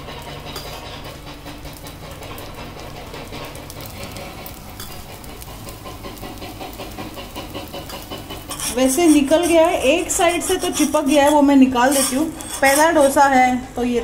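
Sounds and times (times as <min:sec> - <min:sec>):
batter sizzling on hot griddle: 0:00.0 - 0:13.6.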